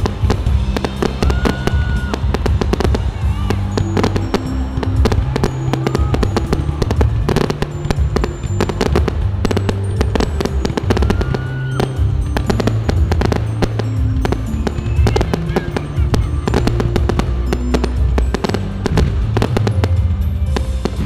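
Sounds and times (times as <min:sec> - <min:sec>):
firework whistles: 0:00.0 - 0:19.8
fireworks bangs and crackling: 0:00.0 - 0:21.0
loud music with heavy bass: 0:00.0 - 0:21.0.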